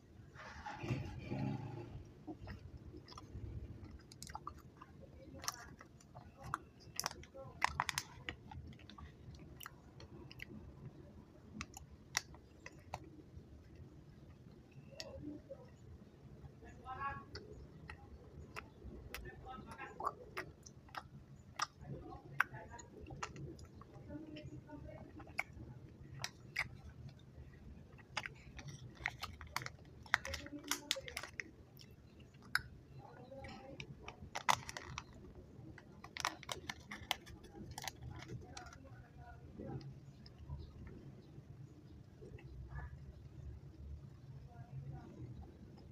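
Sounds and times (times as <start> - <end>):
chewing sticky candy: 0.7 - 45.9.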